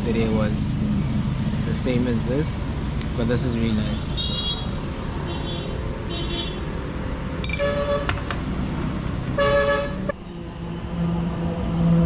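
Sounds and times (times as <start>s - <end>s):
road traffic engine hum: 0.0s - 12.0s.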